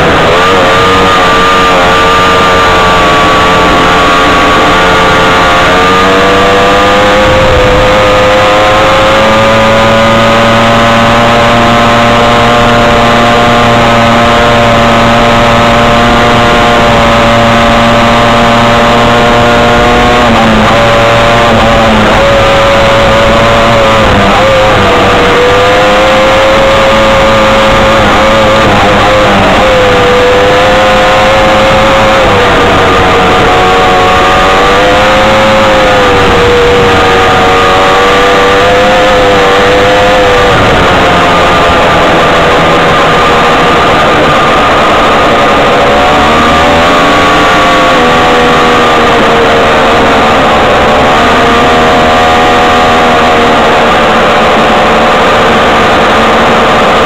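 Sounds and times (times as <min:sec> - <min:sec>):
buggy engine running hard: 0:00.0 - 0:57.0.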